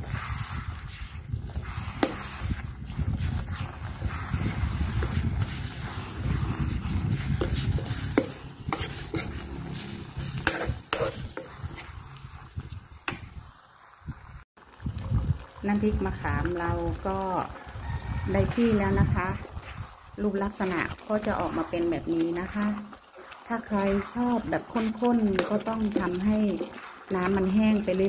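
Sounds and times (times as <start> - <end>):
spoon stirring and scraping pan: 0.0 - 14.2, 17.0 - 28.0
food frying: 0.0 - 28.0.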